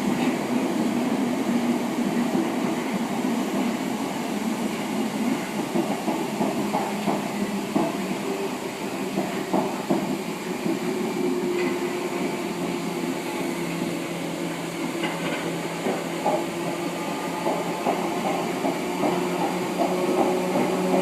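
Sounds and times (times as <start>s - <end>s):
train rumbling inside carriage: 0.0s - 21.0s.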